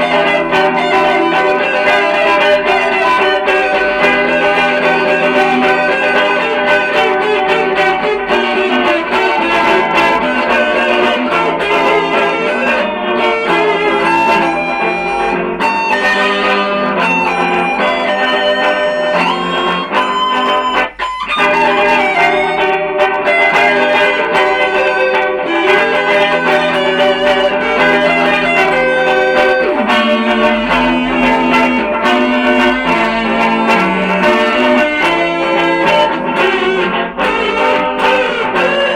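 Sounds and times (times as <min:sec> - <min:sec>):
electric guitar playing: 0:00.0 - 0:38.9
looped guitar parts: 0:00.0 - 0:38.9.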